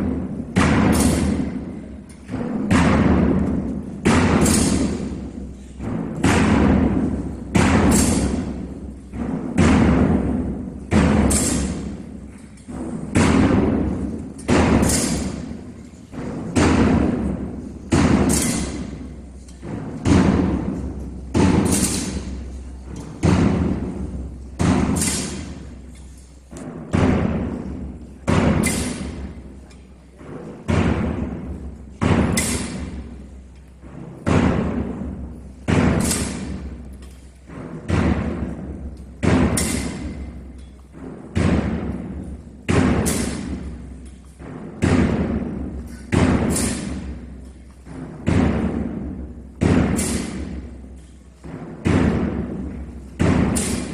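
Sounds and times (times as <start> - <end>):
heavy drum strikes echoing: 0.0 - 53.9.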